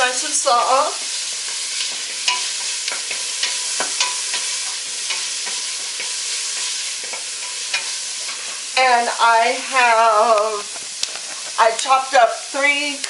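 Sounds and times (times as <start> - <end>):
onion sizzling in a pot: 0.0 - 13.0.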